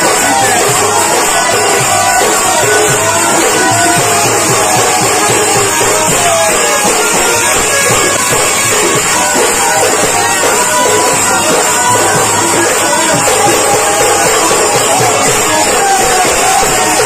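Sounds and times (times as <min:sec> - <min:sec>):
fast steady drum beat: 0:00.0 - 0:17.0
kirtan music: 0:00.0 - 0:17.0.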